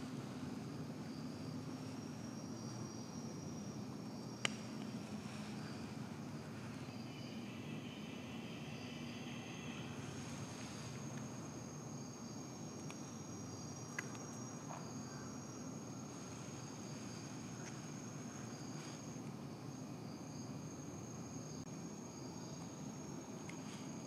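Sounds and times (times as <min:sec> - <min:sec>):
insect high-pitched trill: 0:00.0 - 0:24.0
insect pulsing chirp: 0:00.0 - 0:24.0.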